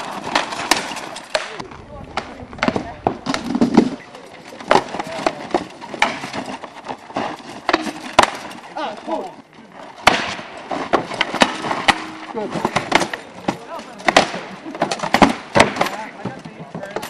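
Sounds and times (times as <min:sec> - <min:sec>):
weapons striking wooden shields: 0:00.0 - 0:17.0.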